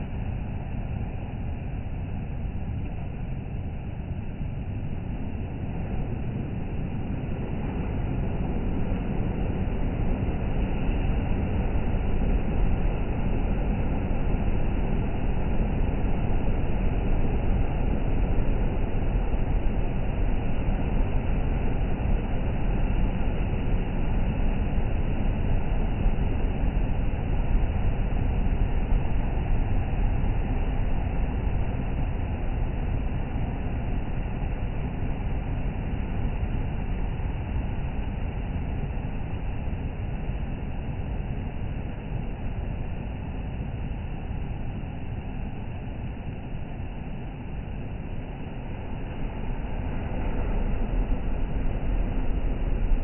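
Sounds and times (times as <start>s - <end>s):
wind: 0.0s - 53.0s.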